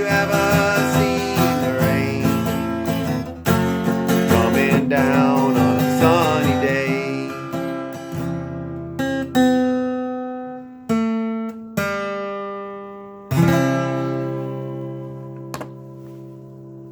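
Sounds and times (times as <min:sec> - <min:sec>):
acoustic guitar strums: 0:00.0 - 0:16.9.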